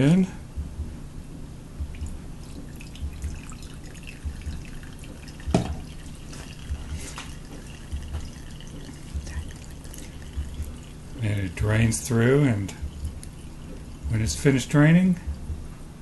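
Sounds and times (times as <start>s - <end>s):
water dripping into a mug: 1.9s - 15.3s.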